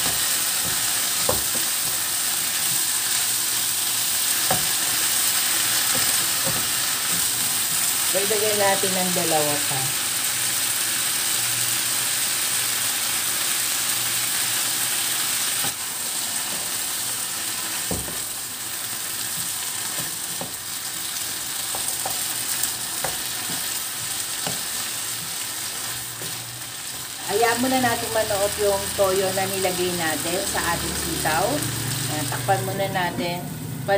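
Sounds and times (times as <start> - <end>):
food sizzling in a wok: 0.0 - 33.9.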